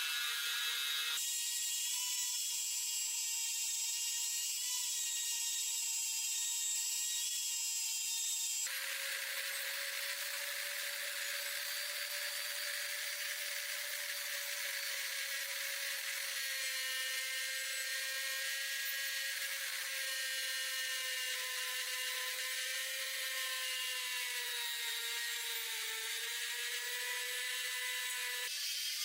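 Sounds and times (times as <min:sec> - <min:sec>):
power tool whining: 0:00.0 - 0:29.0.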